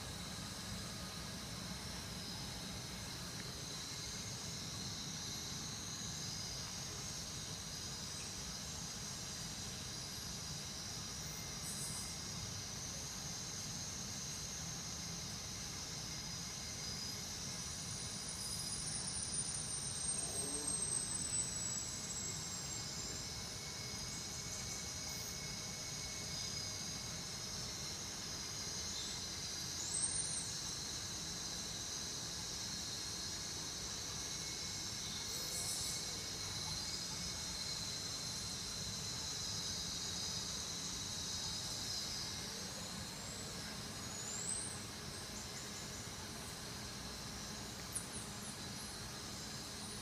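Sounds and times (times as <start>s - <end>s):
faint high whine: 0.0s - 50.0s
steady high hiss: 0.0s - 50.0s.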